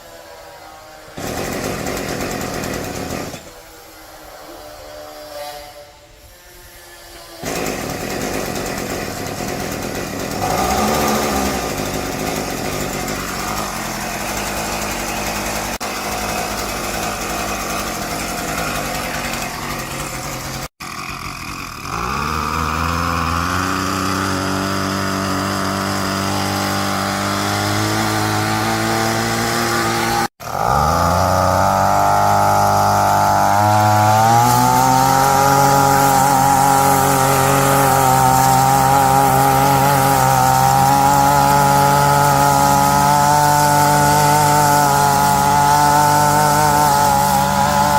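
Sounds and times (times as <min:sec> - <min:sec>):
small motor whining: 0:09.0 - 0:47.9.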